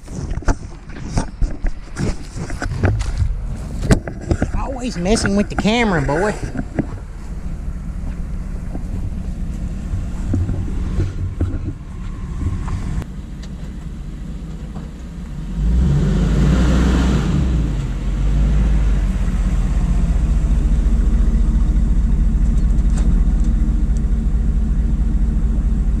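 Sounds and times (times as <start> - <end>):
car engine: 0.0 - 26.0
road noise: 0.0 - 26.0.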